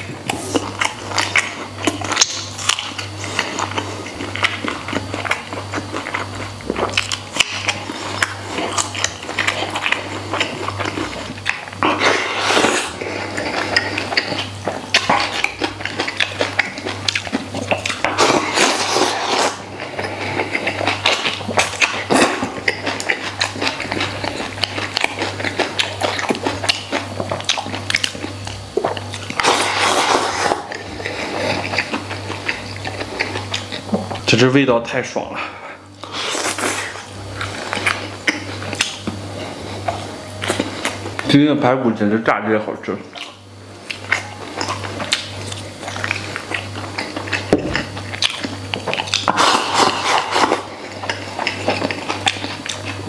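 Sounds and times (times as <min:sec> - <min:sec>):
wet chewing and smacking: 0:00.0 - 0:34.3, 0:35.9 - 0:41.3, 0:43.0 - 0:53.0.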